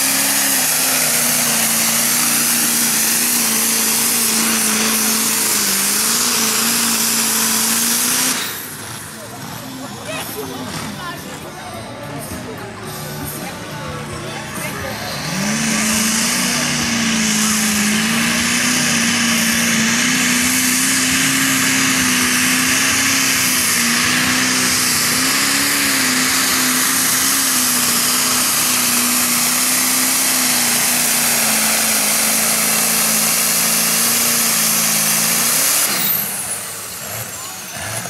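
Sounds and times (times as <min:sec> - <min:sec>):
tractor engine at full throttle: 0:00.0 - 0:38.0.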